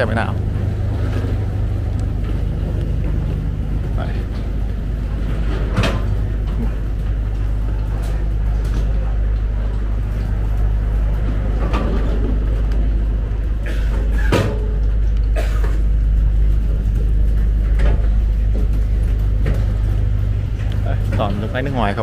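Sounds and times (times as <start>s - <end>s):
ferry engines humming: 0.0s - 22.0s
knocks and clunks: 0.4s - 9.8s, 11.1s - 21.6s.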